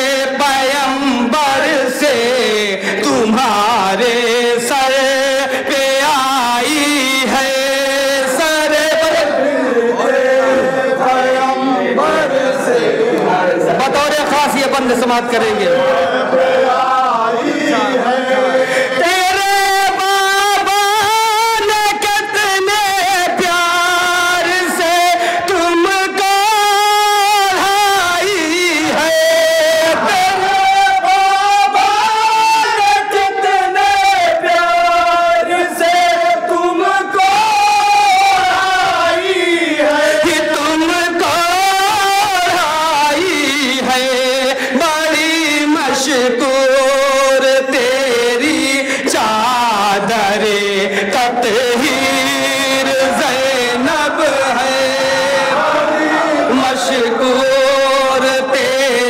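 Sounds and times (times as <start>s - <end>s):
men chanting into a microphone: 0.0s - 59.0s
men singing in chorus: 0.0s - 59.0s.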